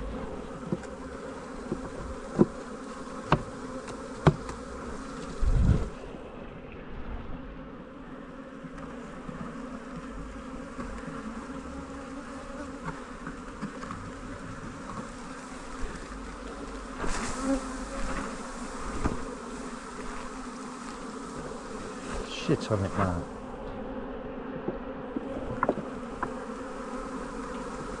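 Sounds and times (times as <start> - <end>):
bees buzzing: 0.0 - 28.0.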